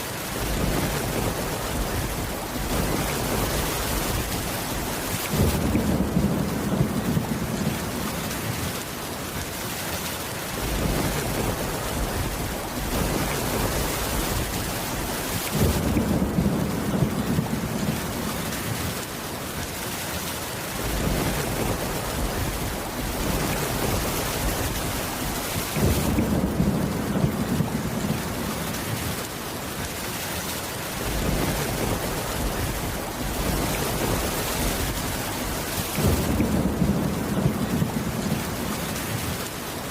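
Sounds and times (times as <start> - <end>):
heavy rain: 0.0 - 39.9
thunder rolling: 0.4 - 8.3, 10.6 - 19.0, 20.8 - 29.2, 31.0 - 39.9.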